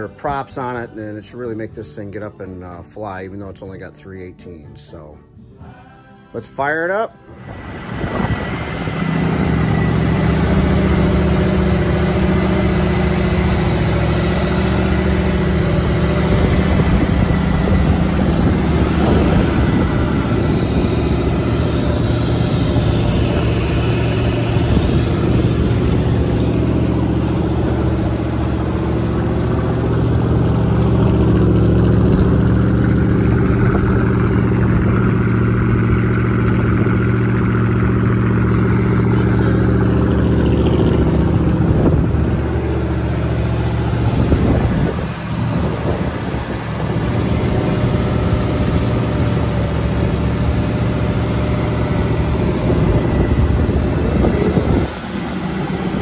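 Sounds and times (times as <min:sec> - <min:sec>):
boat engine running: 0:06.6 - 0:56.0.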